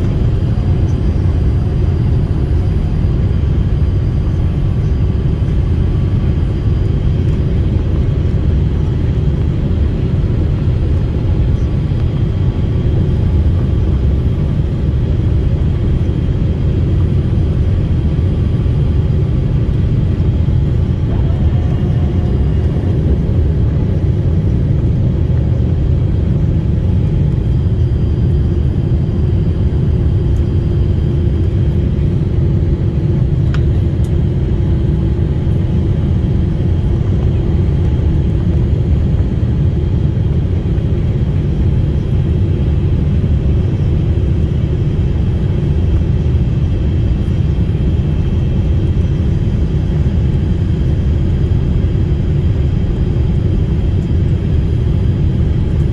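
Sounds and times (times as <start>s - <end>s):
airliner engine and airflow rumble: 0.0s - 55.9s.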